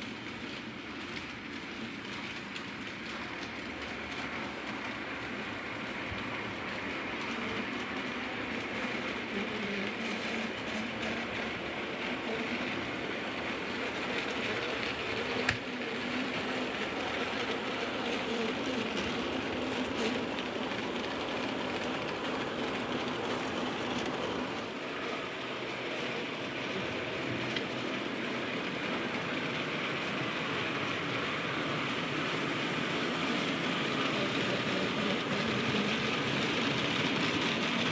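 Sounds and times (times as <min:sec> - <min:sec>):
model train motors whirring: 0:00.0 - 0:37.9.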